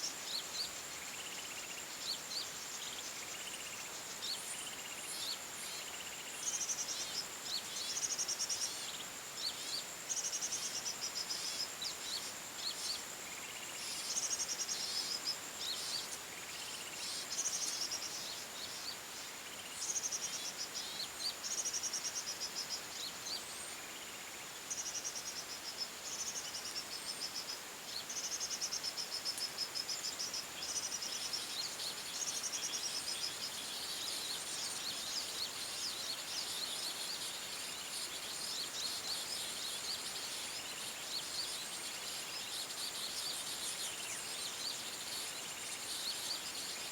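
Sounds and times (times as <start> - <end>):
insect drone: 0.0 - 46.9.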